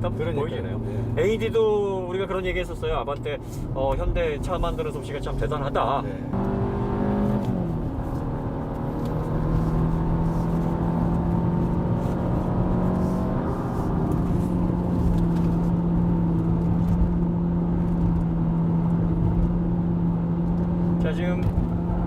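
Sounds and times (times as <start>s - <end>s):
car engine drone in cabin: 0.0s - 22.0s
low road rumble: 0.0s - 22.0s.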